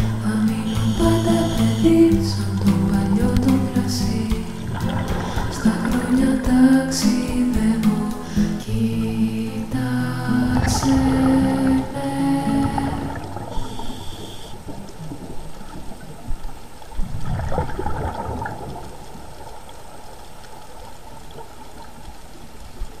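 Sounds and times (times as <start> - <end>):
underwater air bubbles gurgling: 0.0 - 7.0, 8.4 - 22.9.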